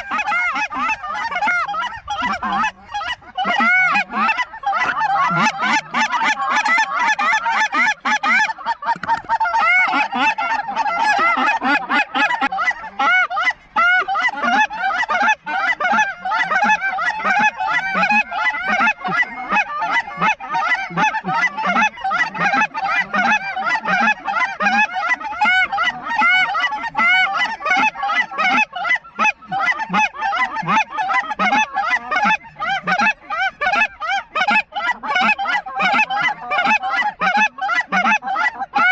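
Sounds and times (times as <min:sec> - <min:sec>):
goose calls honking and clucking: 0:00.0 - 0:38.9.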